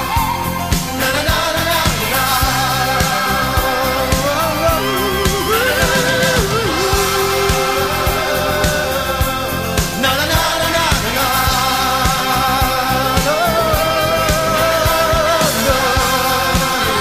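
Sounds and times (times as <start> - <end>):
latin pop-rock song: 0.0 - 17.0.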